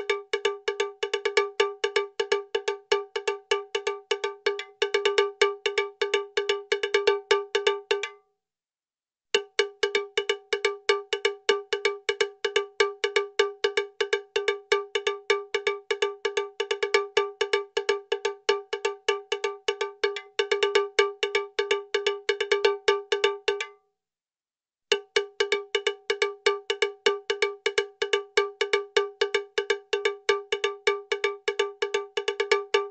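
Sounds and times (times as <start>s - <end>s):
rapid cowbell-like metallic tone: 0.0s - 8.2s, 9.4s - 23.8s, 24.9s - 32.9s.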